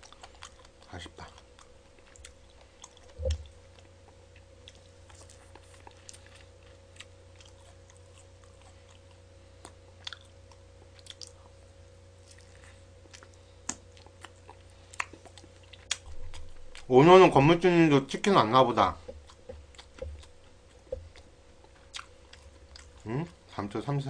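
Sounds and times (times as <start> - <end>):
chewing and biting chicken: 0.0 - 11.6, 12.2 - 16.9, 19.0 - 23.4
faint steady hum: 0.0 - 24.0.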